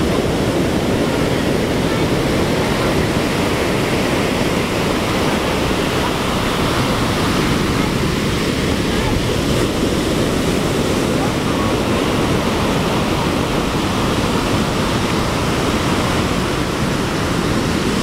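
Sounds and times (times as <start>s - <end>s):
heavy surf breaking: 0.0s - 18.0s
wind on microphone: 0.0s - 18.0s.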